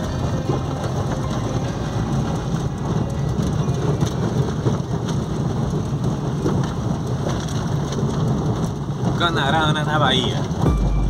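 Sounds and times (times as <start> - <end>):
rain on a car: 0.0 - 11.0
tyres rumbling on cobblestones: 0.0 - 11.0.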